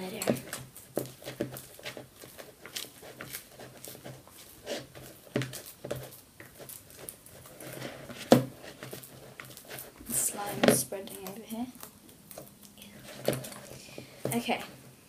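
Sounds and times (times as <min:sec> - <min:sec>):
spatula scraping plastic bowl: 0:00.0 - 0:14.9.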